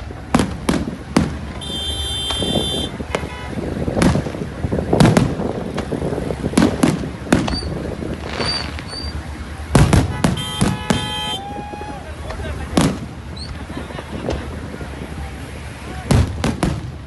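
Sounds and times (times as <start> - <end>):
firecrackers banging: 0.0 - 15.2, 15.8 - 17.0.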